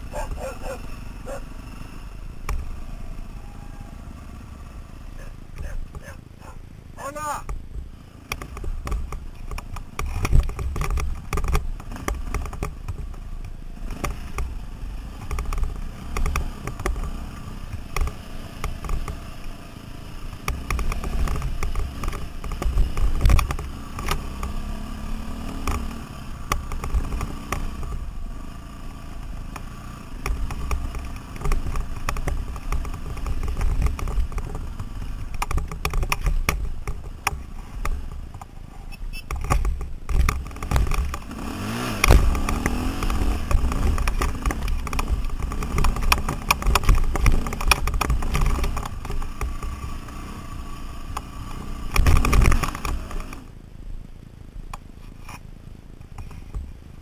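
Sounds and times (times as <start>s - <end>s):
dirt bike engine rumble: 0.0s - 57.0s.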